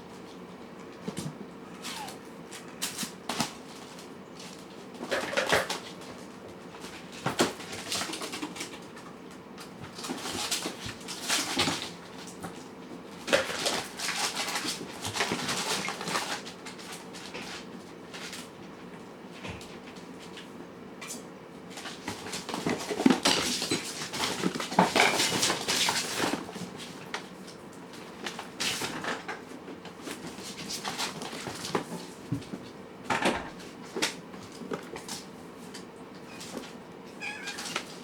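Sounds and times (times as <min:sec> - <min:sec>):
cats rustling and scratching: 0:00.0 - 0:38.0.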